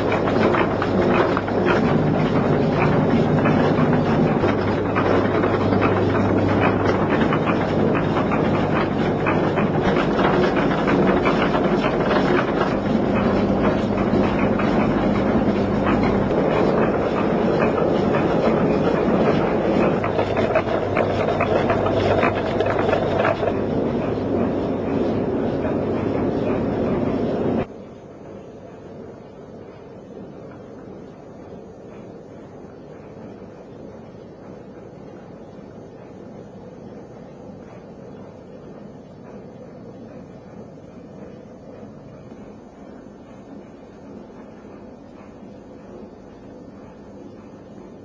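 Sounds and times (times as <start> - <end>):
machinery low hum: 0.0 - 48.0
mill machinery clattering: 0.0 - 48.0.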